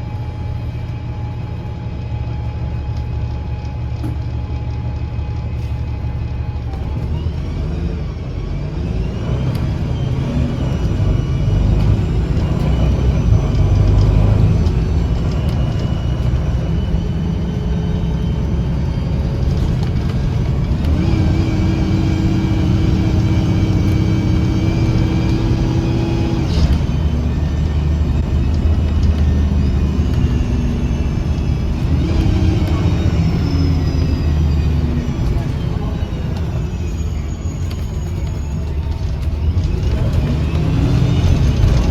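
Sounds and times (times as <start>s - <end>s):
bus engine running under load: 0.0s - 41.9s.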